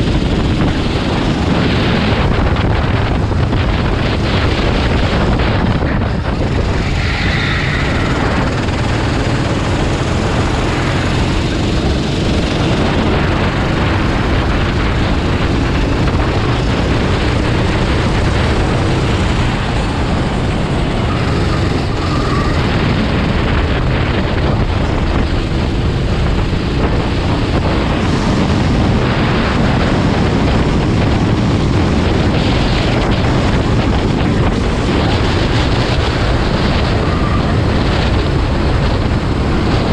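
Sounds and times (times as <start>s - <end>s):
vehicle noise: 0.0s - 39.9s
wind buffeting microphone: 0.0s - 39.9s.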